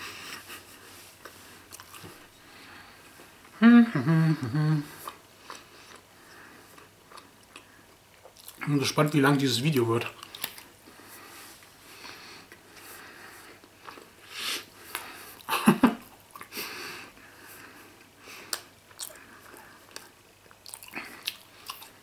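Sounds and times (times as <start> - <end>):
man chewing: 0.0 - 3.6, 4.8 - 8.6, 10.2 - 22.0.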